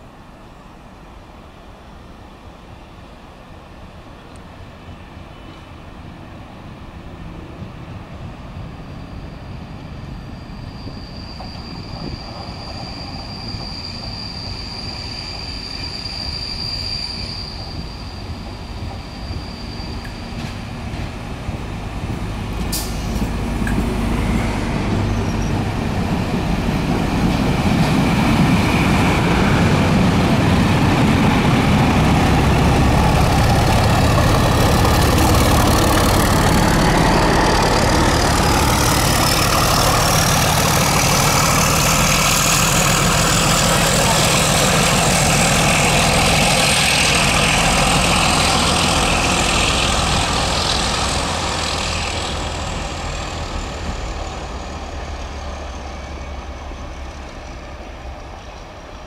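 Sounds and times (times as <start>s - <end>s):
train wheels rumbling over rails: 3.4s - 59.0s
diesel locomotive running: 6.3s - 59.0s.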